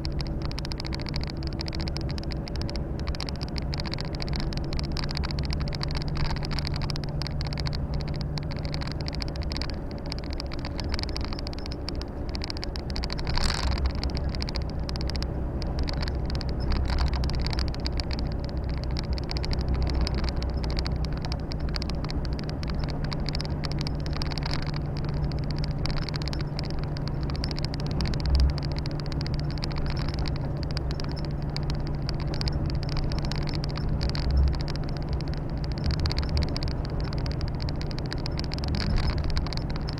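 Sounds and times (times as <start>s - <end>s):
diesel truck engine drone: 0.0s - 39.9s
road and wind noise: 0.0s - 39.9s.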